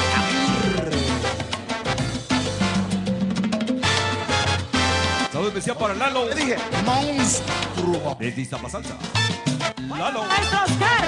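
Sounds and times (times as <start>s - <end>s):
latin dance music on sound system: 0.0s - 11.0s.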